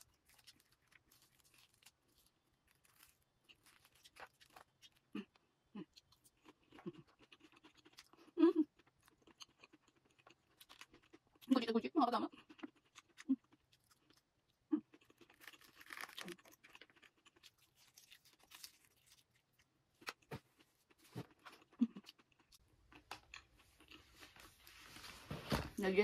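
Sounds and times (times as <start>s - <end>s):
quiet chewing: 0.0s - 11.5s, 12.3s - 24.7s.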